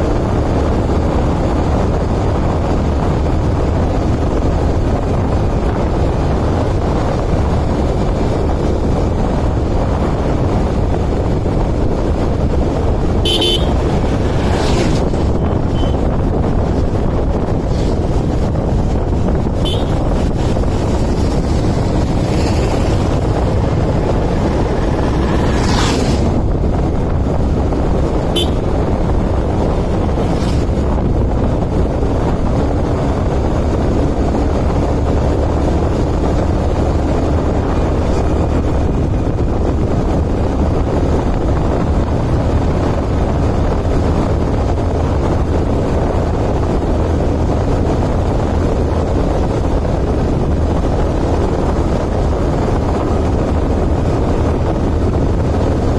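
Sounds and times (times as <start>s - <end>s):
vehicle engine running: 0.0s - 55.9s
wind on microphone: 0.0s - 55.9s.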